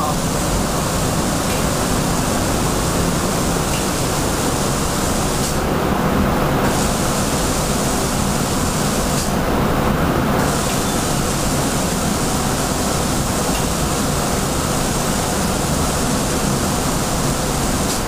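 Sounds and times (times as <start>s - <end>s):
spray gun hissing: 0.0s - 5.7s, 6.6s - 9.4s, 10.4s - 18.0s.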